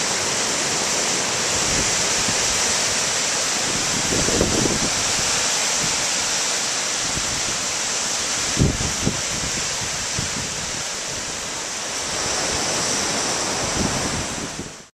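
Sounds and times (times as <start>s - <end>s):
ocean waves breaking: 0.0s - 14.9s.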